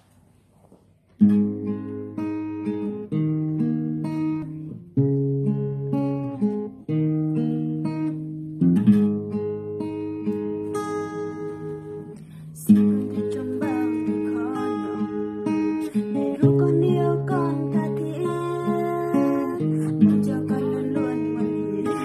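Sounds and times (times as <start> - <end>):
acoustic guitar strumming: 1.2 - 22.0.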